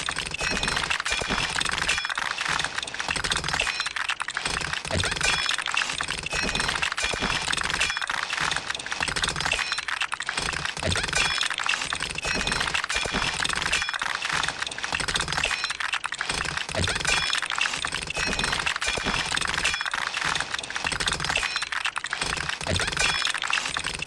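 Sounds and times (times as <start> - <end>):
plastic bricks rattling and clinking: 0.0 - 24.0.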